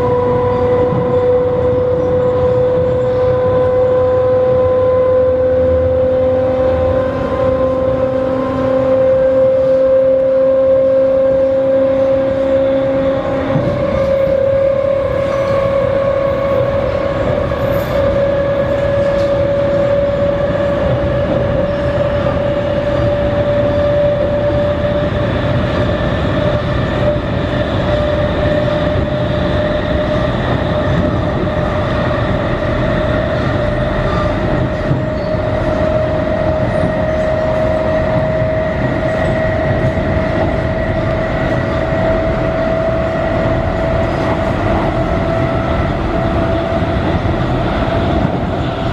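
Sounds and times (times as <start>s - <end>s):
train traction motors whining: 0.0s - 48.9s
wheels rumbling on track: 0.0s - 48.9s.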